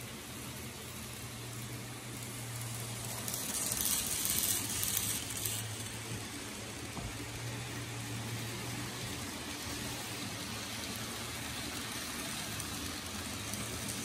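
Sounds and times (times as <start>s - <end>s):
model train wheels rattling: 0.0s - 14.0s.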